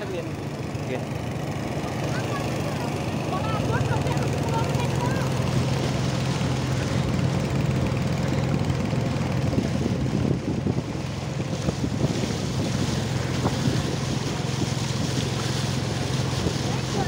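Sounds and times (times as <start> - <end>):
outboard motor droning: 0.0 - 17.0
water rushing past hull: 0.0 - 17.0
wind buffeting microphone: 1.7 - 17.0.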